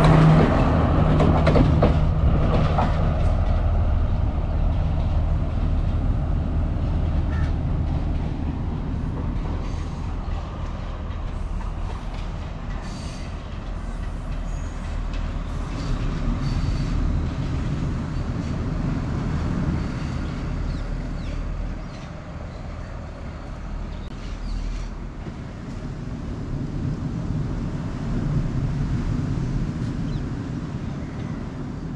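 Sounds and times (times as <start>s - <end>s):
diesel train engine rumble: 0.0s - 31.9s
rail noise: 0.0s - 31.9s.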